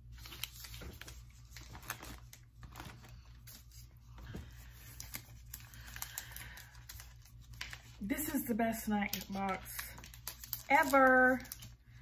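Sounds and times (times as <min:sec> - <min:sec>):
snack wrappers rustling: 0:00.0 - 0:11.9.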